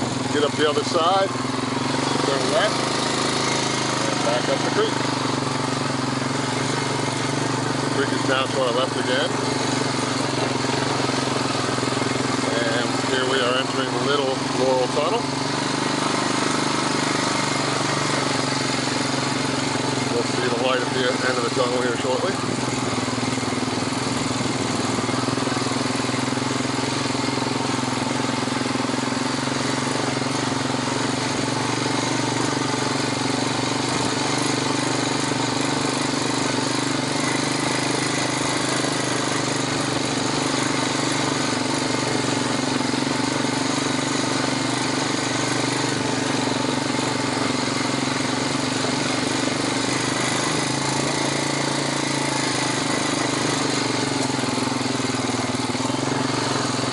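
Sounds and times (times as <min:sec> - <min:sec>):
atv engine droning: 0:00.0 - 0:56.9.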